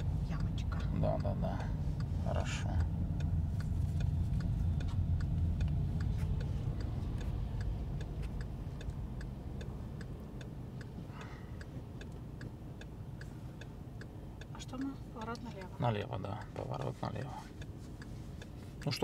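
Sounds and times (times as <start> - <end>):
engine and road rumble: 0.0 - 19.0
turn signal ticking: 0.0 - 19.0.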